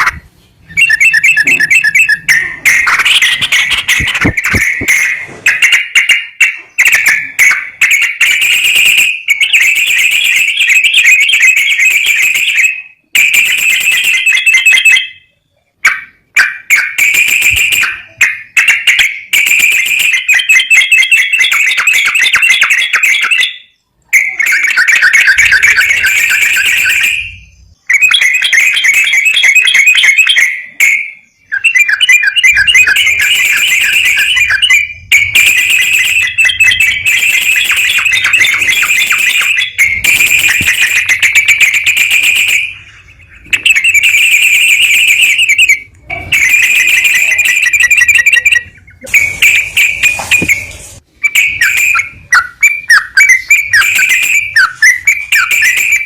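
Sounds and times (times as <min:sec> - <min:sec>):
buzzy bird trills: 0:00.0 - 0:12.8, 0:16.4 - 0:56.0.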